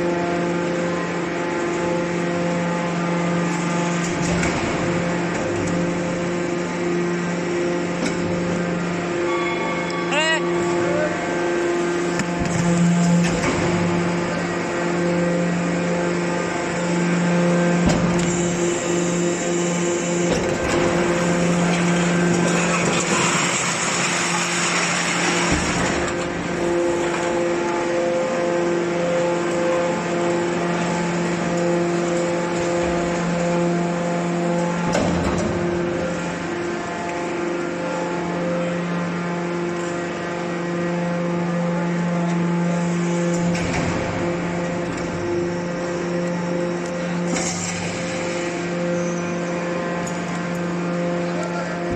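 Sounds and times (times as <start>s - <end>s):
hydraulic pump hum: 0.0s - 51.9s
rushing grinding noise: 8.5s - 51.9s.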